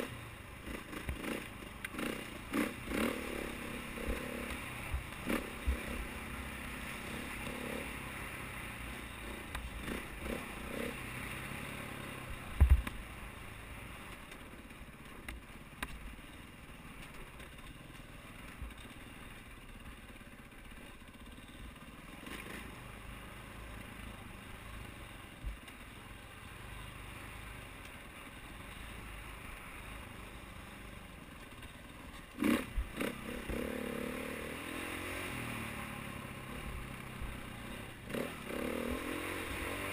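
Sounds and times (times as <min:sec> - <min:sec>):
dirt bike engine running: 0:00.0 - 0:26.5, 0:27.9 - 0:39.9.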